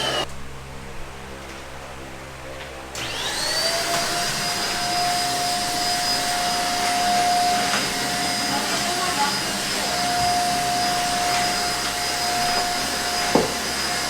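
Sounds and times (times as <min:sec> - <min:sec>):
vacuum cleaner motor whine: 0:00.0 - 0:00.3, 0:02.9 - 0:14.0.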